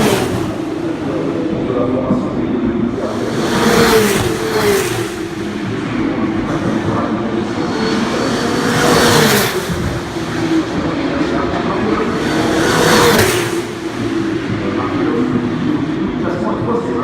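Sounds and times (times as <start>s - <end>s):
drone of cars on track: 0.0s - 17.0s
race cars passing close: 0.0s - 17.0s.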